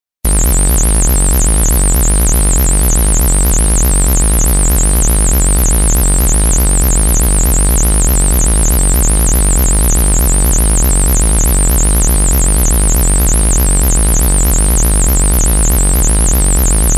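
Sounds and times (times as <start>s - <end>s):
deep bass hum: 0.3s - 16.9s
warbling synthesizer tone: 0.3s - 16.9s.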